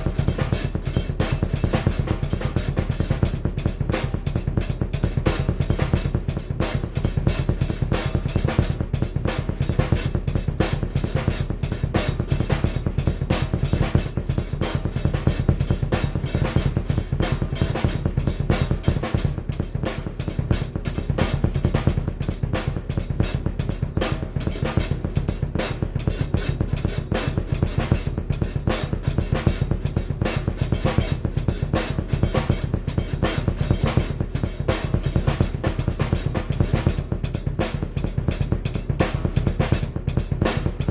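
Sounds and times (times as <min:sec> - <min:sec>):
fast double bass drum kicks: 0:00.0 - 0:40.9
snare and cymbal hits: 0:00.0 - 0:40.9.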